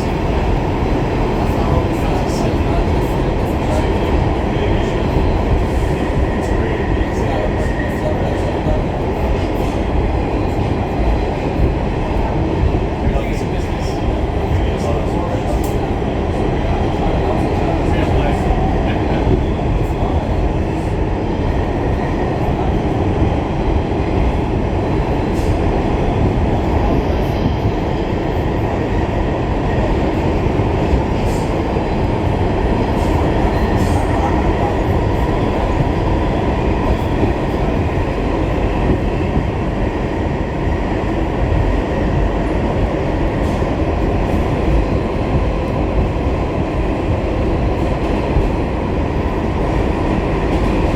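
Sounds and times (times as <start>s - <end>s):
subway car wheels rumbling on rails: 0.0s - 50.9s.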